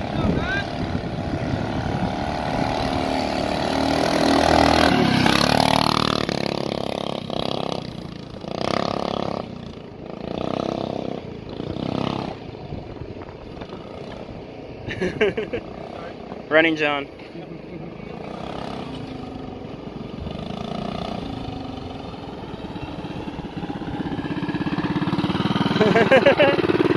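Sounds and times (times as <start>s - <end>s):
mini bike engine revving: 0.0s - 16.8s, 17.4s - 26.9s.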